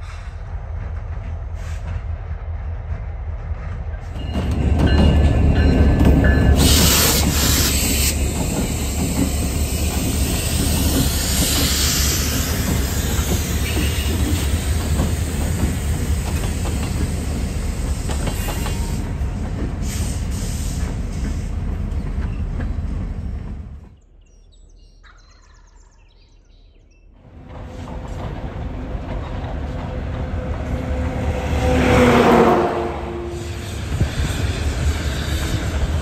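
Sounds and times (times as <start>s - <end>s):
diesel locomotive engine rumble: 0.0s - 24.0s, 27.2s - 36.0s
train wheel noise: 0.0s - 24.0s, 27.2s - 36.0s.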